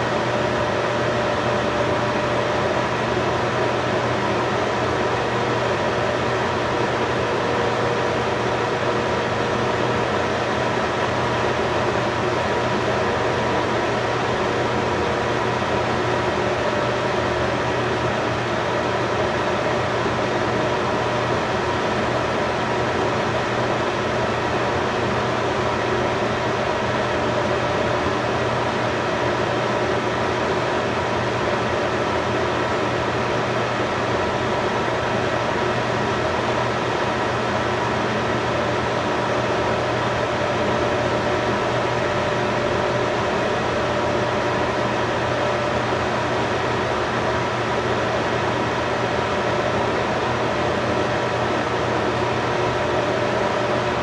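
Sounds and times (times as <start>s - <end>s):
steady mechanical hum with hiss: 0.0s - 54.0s.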